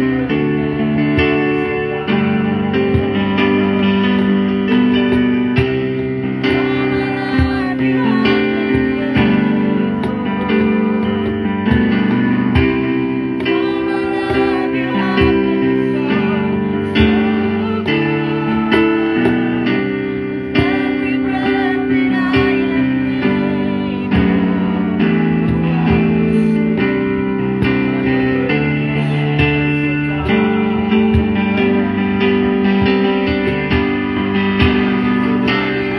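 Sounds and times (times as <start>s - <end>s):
guitar chords plucked and strummed: 0.0s - 35.9s.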